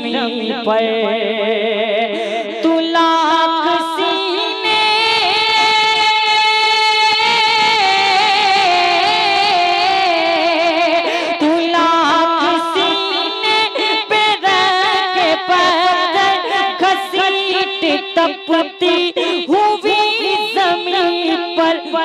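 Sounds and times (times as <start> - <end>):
person singing into microphone: 0.0 - 22.0.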